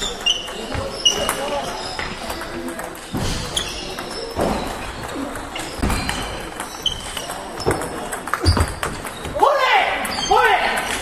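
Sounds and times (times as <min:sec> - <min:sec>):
table tennis balls clicking: 0:00.0 - 0:09.4
low hall background noise: 0:00.0 - 0:11.0.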